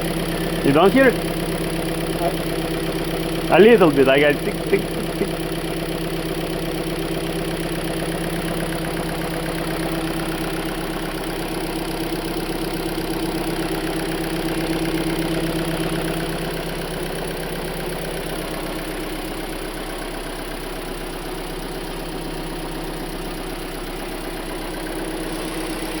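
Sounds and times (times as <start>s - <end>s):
car engine idling with ticking: 0.0s - 26.0s.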